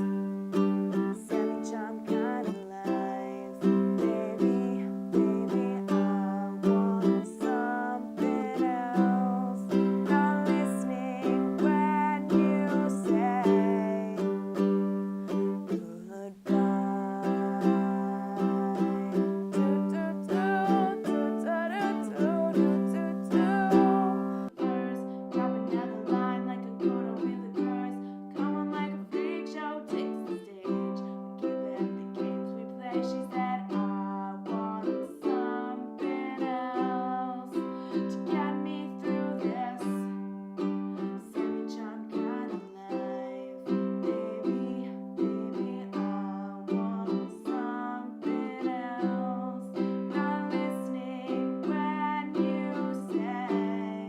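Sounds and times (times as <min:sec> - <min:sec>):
plucked string instrument music: 0:00.0 - 0:54.0.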